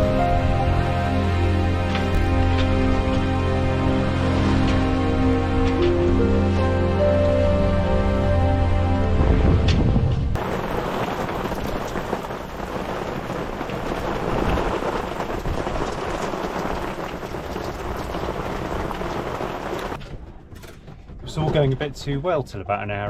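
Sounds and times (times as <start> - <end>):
heavy rain and wind: 0.0 - 20.0.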